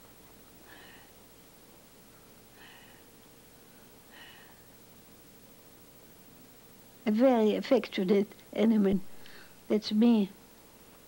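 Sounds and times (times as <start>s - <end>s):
faint recording hiss: 0.0s - 11.0s.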